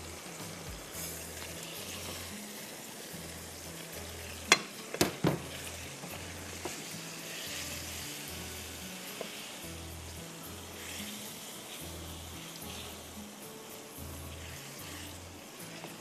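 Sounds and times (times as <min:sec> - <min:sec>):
sauce sizzling in a wok: 0:00.0 - 0:16.0
spatula stirring: 0:00.0 - 0:16.0.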